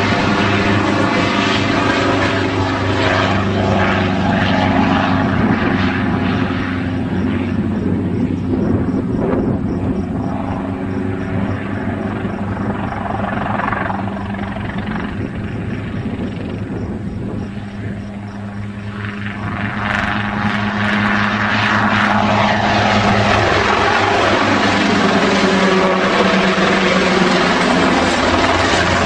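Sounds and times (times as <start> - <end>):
helicopter flying close by: 0.0 - 29.0.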